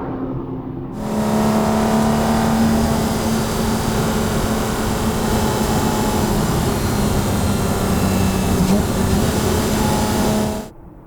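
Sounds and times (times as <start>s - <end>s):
car engine running: 1.0s - 10.7s
steady hiss: 1.0s - 10.7s.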